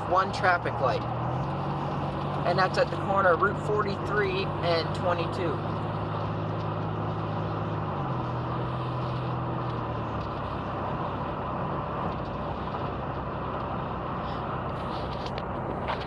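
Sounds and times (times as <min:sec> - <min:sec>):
car engine hum: 0:00.0 - 0:16.0
tyre and road noise: 0:00.0 - 0:16.0.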